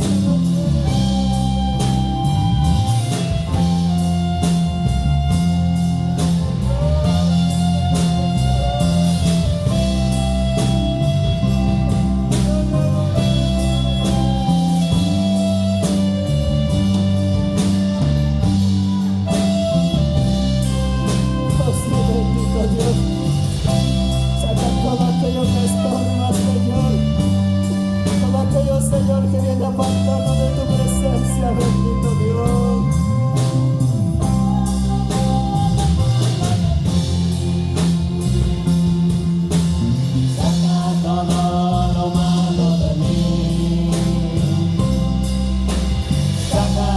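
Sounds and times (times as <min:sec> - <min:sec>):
band playing slow instrumental: 0:00.0 - 0:46.9
steady drum beat: 0:00.0 - 0:46.9.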